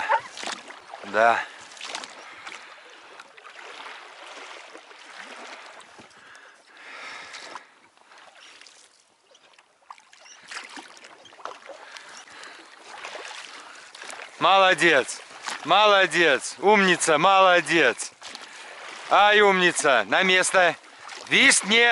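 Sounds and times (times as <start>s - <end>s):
small knocks and splashes: 0.0s - 6.6s, 7.2s - 15.7s, 18.0s - 21.6s
oars dipping into water: 0.0s - 21.9s
water lapping around boat: 0.0s - 21.9s.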